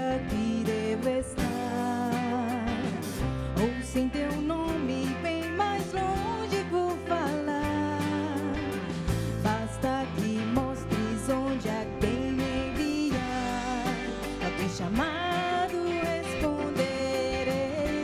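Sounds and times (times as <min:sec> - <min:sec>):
live band playing: 0:00.0 - 0:18.0
steady drum beat: 0:00.0 - 0:18.0
woman singing: 0:00.0 - 0:18.0.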